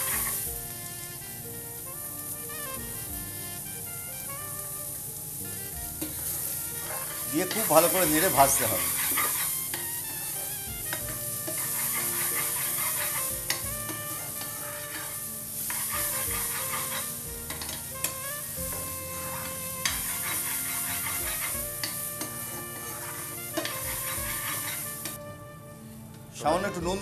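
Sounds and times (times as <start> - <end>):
food sizzling in oil: 0.0 - 25.2
faint background music: 0.0 - 27.0.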